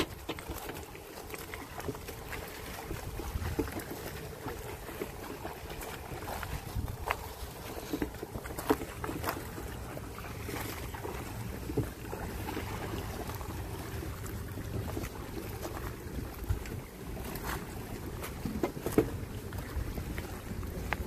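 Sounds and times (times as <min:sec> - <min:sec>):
sharp knocks and splashes: 0:00.0 - 0:21.0
water lapping on rocky shore: 0:00.0 - 0:21.0
wind rumbling on microphone: 0:01.7 - 0:21.0.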